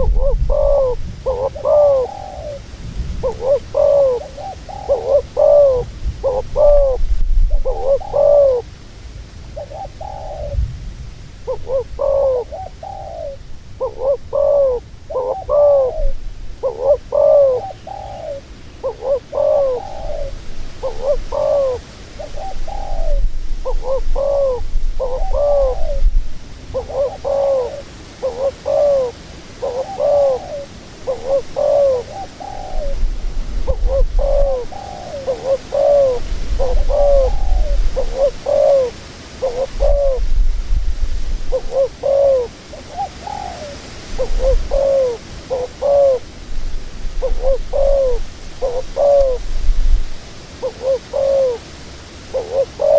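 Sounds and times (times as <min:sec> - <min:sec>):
dove cooing: 0:00.0 - 0:08.7, 0:09.6 - 0:10.6, 0:11.4 - 0:52.9.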